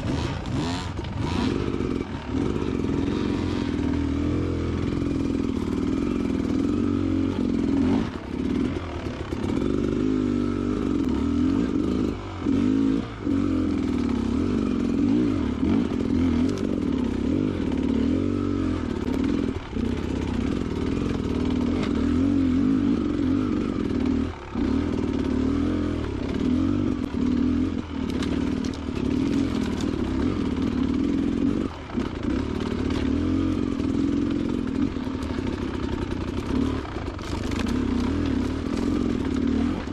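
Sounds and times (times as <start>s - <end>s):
motorcycle rattling on rocks: 0.0s - 39.9s
two-stroke motorcycle engine: 0.0s - 39.9s.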